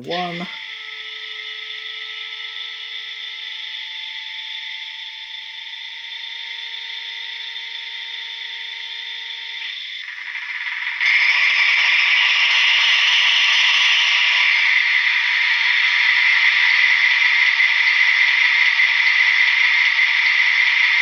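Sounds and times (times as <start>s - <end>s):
tinny model locomotive engine sound: 0.0s - 21.0s.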